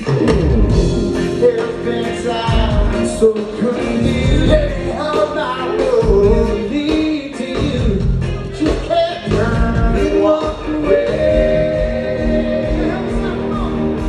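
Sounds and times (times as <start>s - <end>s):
live rock band playing: 0.0s - 14.0s
person singing: 1.2s - 14.0s.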